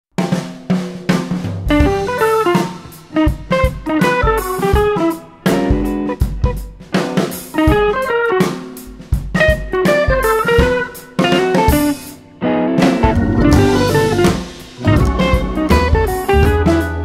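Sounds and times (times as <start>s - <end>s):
drum kit beat: 0.1s - 17.0s
guitar melody: 1.8s - 17.0s.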